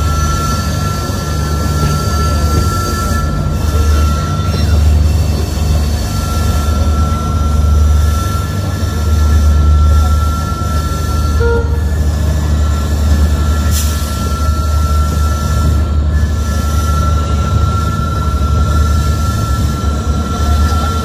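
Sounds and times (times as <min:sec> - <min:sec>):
train rumble on rails: 0:00.0 - 0:21.0.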